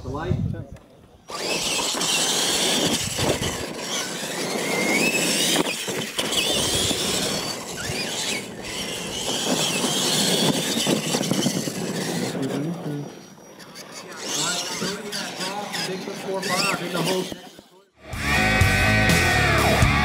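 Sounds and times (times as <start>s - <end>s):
electric toy truck motors whining: 1.0s - 20.0s
tyres rushing on dirt: 1.2s - 20.0s.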